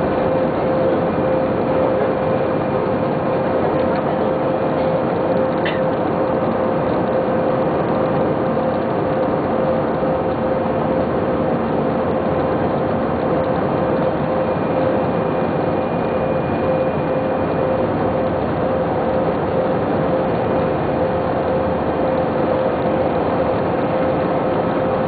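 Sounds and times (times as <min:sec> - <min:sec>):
jet engines from inside cabin: 0:00.0 - 0:25.0.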